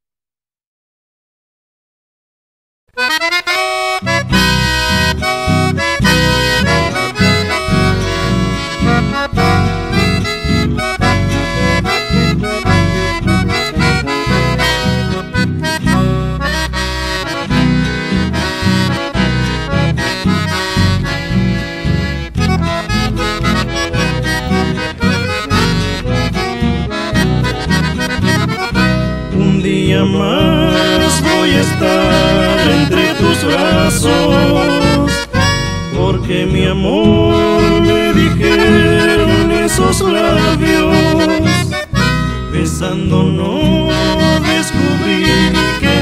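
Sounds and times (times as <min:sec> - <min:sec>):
accordion melody: 0:02.9 - 0:46.0
pulsing bass beat: 0:04.4 - 0:46.0.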